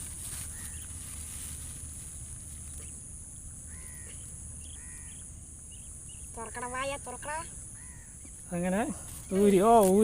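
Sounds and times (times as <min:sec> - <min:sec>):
bird calling: 0:00.0 - 0:09.8.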